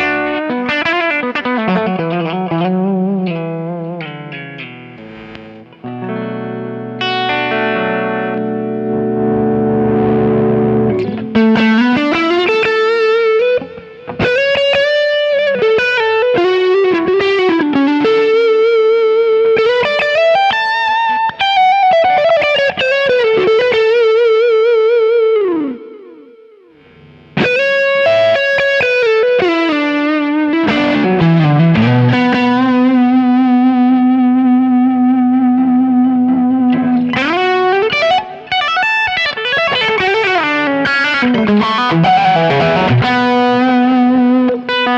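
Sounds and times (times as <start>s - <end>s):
electric guitar lead with bends: 0.0s - 44.9s.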